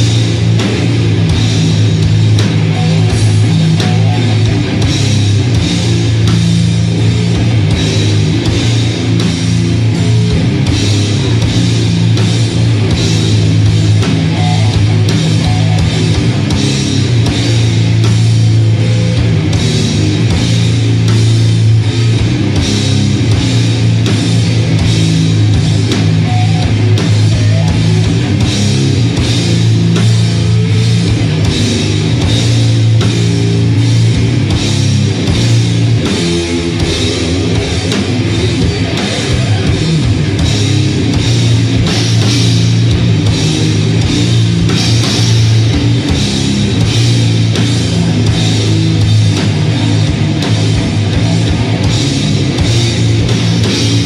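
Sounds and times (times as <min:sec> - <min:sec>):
distorted guitars and bass: 0:00.0 - 0:54.0
drums and cymbals: 0:00.0 - 0:54.0.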